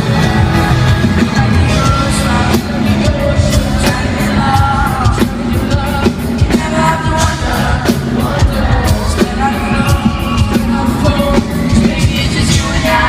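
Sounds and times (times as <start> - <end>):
live pop-rock band: 0.0 - 13.0
person singing: 0.0 - 13.0.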